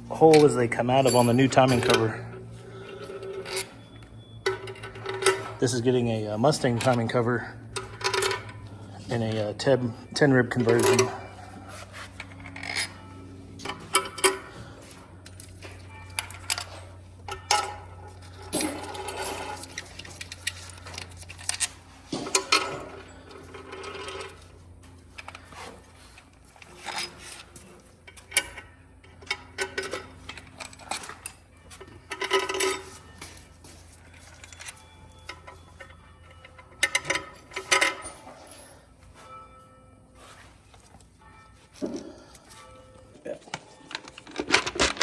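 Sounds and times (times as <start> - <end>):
metal bolts clinking: 0.0 - 39.6, 40.2 - 45.0.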